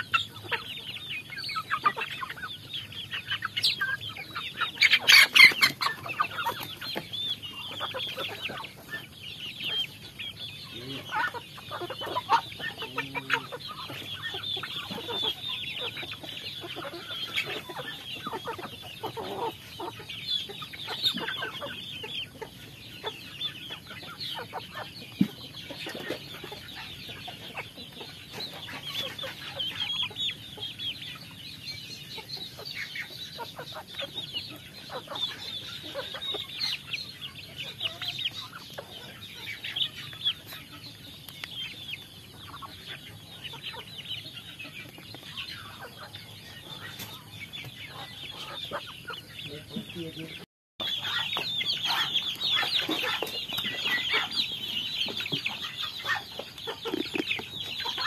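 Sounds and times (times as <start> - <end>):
young chickens clucking: 0.0 - 58.0.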